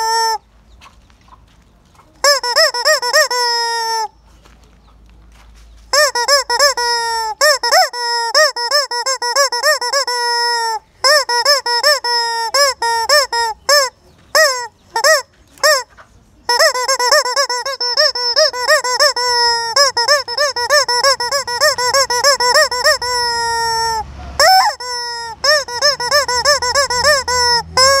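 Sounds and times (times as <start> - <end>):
squeaky toy chicken squealing: 0.0 - 0.4, 2.2 - 4.1, 5.9 - 28.0.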